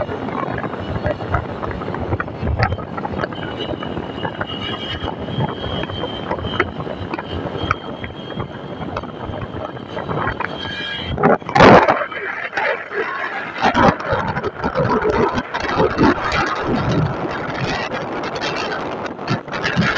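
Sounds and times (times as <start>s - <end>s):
vehicle road and wind noise: 0.0s - 19.9s.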